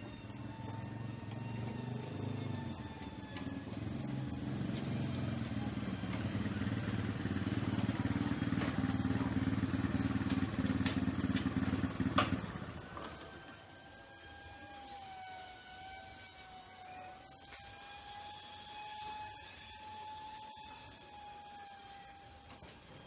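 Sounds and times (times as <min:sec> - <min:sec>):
faint high whine: 0:00.0 - 0:23.0
low engine drone: 0:00.0 - 0:23.0.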